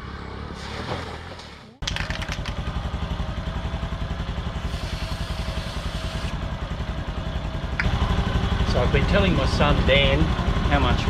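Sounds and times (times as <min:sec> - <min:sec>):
motorbike engine idling: 0:01.9 - 0:11.0.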